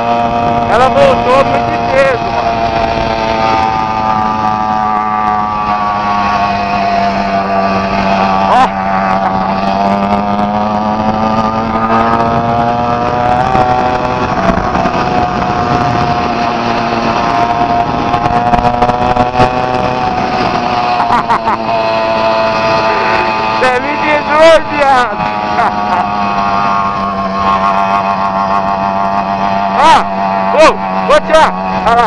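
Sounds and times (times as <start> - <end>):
two-stroke engine running: 0.0 - 32.0.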